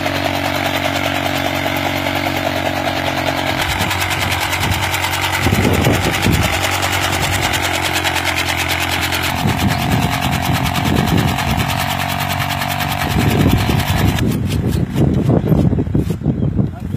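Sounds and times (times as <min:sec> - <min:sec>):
blades chopping fodder: 0:00.0 - 0:15.4
motorcycle engine running under load: 0:00.0 - 0:16.4.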